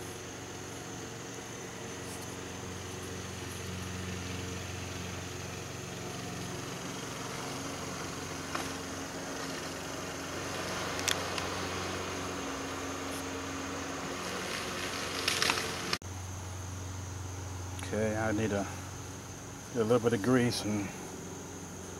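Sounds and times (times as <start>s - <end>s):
low mechanical hum: 0.0s - 21.9s.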